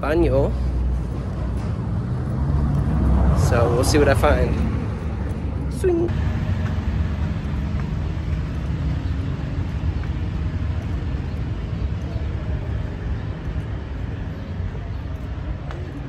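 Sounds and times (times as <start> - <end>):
city ambience rumble: 0.0 - 16.0.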